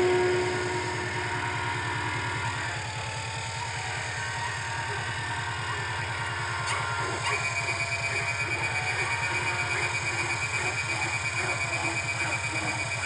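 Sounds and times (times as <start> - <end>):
high-pitched whine: 0.0 - 13.0
machinery pulsing low drone: 0.0 - 13.0.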